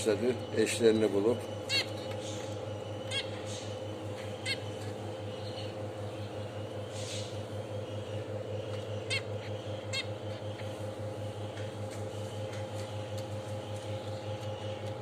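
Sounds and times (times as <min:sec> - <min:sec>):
low machine hum: 0:00.0 - 0:15.0
small cage birds chirping: 0:00.0 - 0:15.0.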